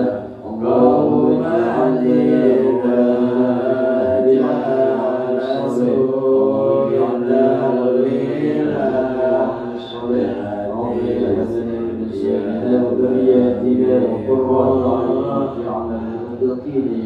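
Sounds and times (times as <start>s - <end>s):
men chanting a prayer: 0.0s - 17.0s.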